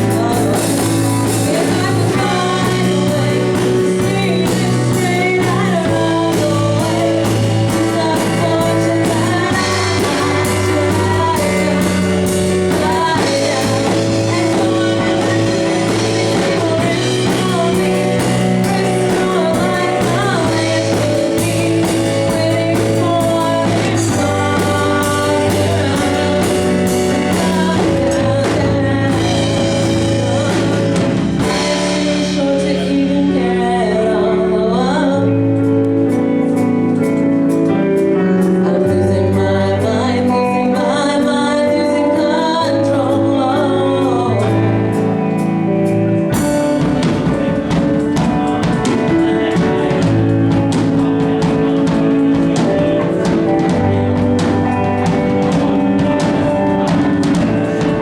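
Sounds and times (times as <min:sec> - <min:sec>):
held bass notes: 0:00.0 - 0:58.0
keyboard accompaniment: 0:00.0 - 0:58.0
woman singing: 0:00.0 - 0:58.0.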